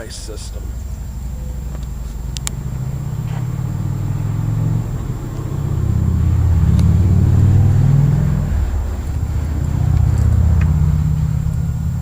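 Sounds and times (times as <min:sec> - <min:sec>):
low mechanical rumble: 0:00.0 - 0:12.0
steady pitched hum: 0:00.0 - 0:12.0.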